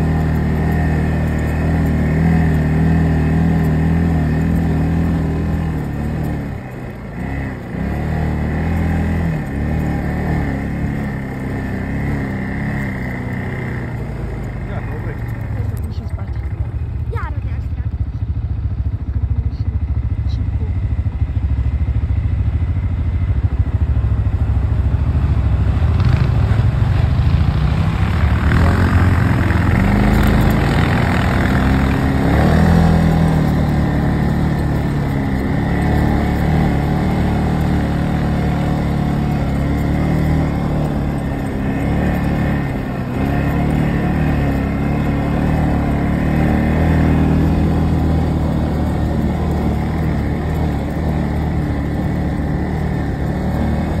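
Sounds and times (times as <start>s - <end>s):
quad bike engines revving: 0.0s - 54.0s.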